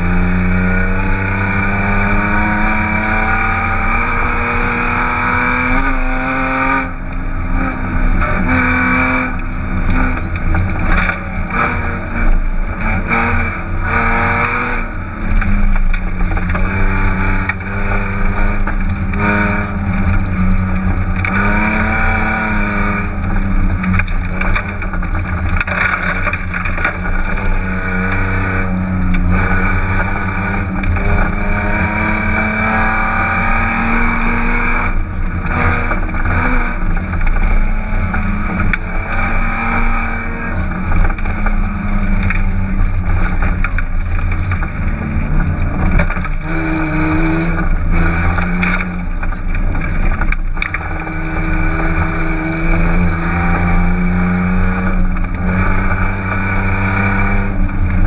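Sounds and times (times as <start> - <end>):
car engine revving hard: 0.0 - 58.0
tyre and road noise: 0.0 - 58.0.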